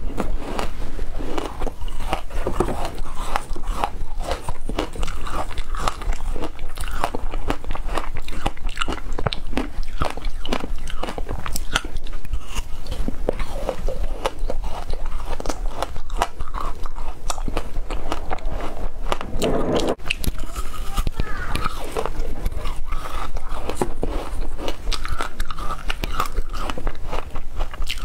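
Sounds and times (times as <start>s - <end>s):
chewing crunchy ice: 0.0s - 28.0s.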